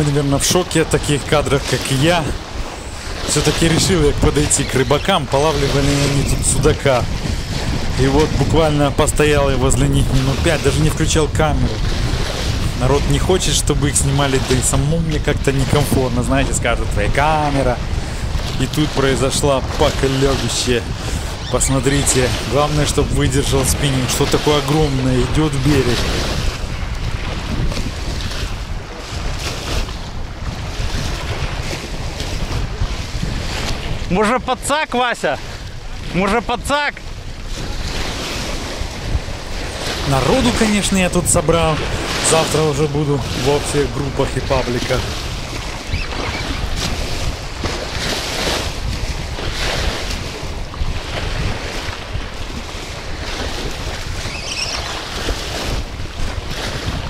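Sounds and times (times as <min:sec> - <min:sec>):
wind rumbling on microphone: 0:00.0 - 0:34.7, 0:35.3 - 0:57.0
waves washing against concrete: 0:00.0 - 0:57.0.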